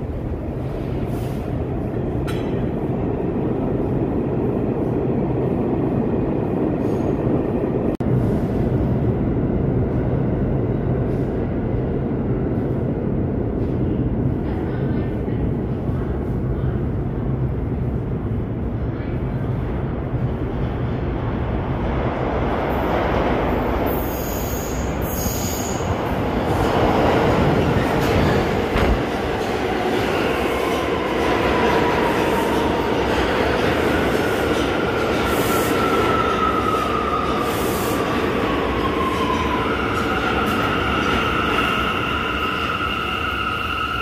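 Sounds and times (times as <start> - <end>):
subway train rumble: 0.0 - 44.0.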